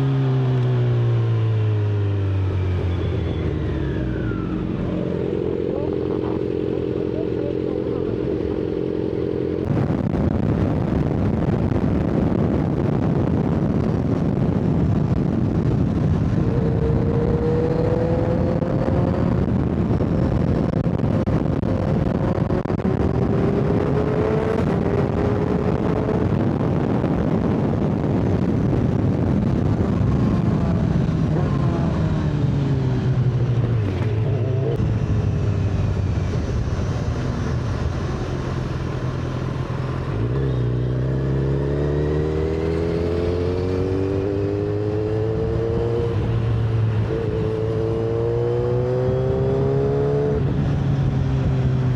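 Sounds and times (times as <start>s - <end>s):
motorcycle engine: 0.0s - 51.9s
wind and road noise: 0.0s - 51.9s.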